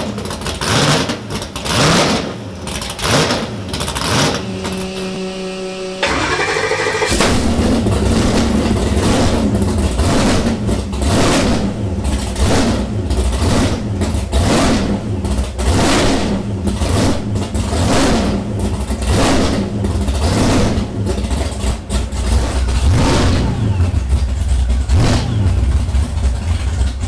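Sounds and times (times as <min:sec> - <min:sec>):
race engine revving over idle: 0:00.0 - 0:27.0.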